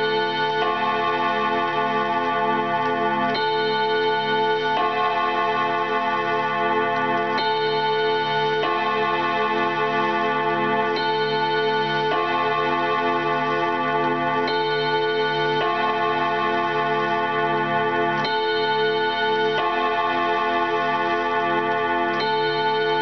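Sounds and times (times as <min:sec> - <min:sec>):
clock chime rods ringing: 0:00.0 - 0:23.0.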